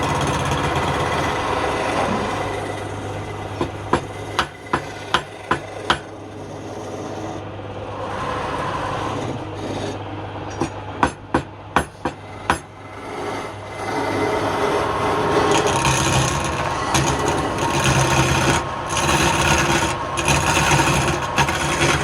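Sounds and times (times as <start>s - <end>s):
wood lathe humming: 0.0s - 10.2s, 12.0s - 22.0s
turning tool scraping wood: 0.0s - 10.6s, 11.8s - 22.0s.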